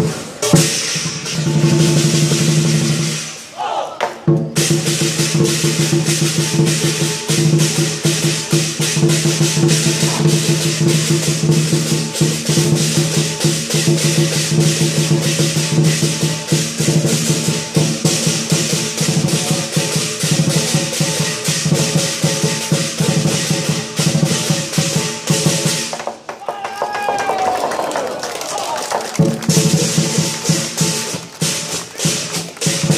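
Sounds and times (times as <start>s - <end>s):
big drum beating: 0.0s - 3.2s, 4.2s - 27.3s, 28.9s - 32.9s
cymbals clashing: 0.0s - 3.7s, 4.4s - 26.0s, 29.5s - 32.9s.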